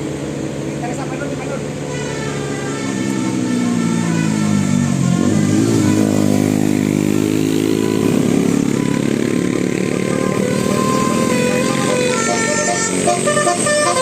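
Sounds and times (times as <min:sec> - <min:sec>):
vehicle engine accelerating: 0:00.0 - 0:14.0.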